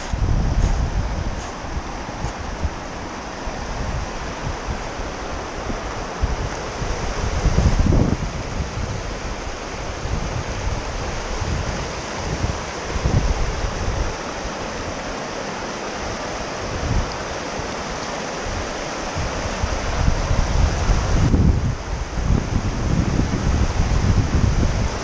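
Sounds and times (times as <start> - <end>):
river rapids rushing over rocks: 0.0 - 25.0
wind buffeting microphone: 0.0 - 25.0.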